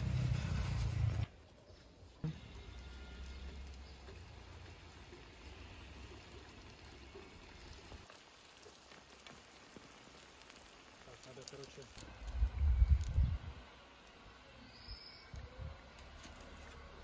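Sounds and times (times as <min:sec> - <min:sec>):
pies sizzling in hot oil: 0:00.0 - 0:17.0.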